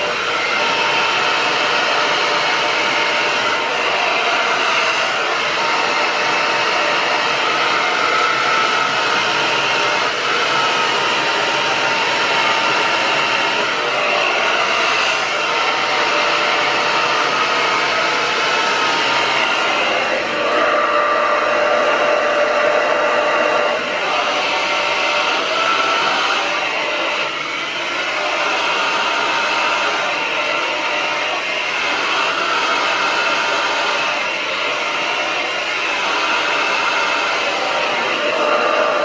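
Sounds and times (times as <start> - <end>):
hair dryer running: 0.0 - 39.0.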